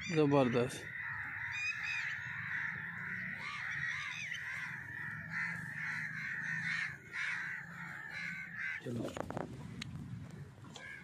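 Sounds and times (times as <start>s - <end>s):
birds calling in chorus: 0.0s - 9.8s, 10.7s - 11.0s.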